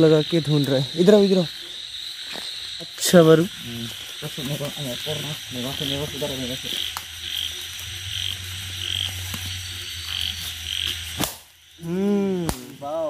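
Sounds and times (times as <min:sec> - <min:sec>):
frogs calling: 0:00.0 - 0:13.0.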